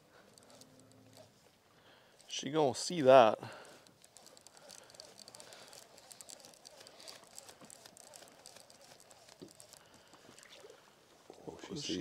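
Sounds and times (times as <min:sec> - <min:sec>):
small ticks: 0:00.0 - 0:10.8.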